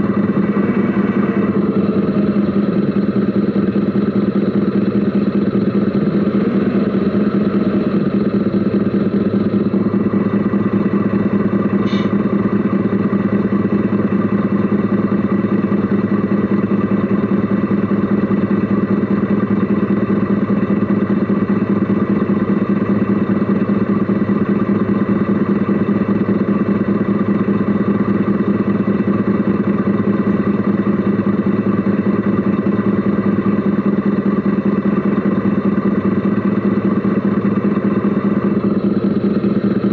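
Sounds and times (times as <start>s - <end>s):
model truck engine running: 0.0s - 39.9s.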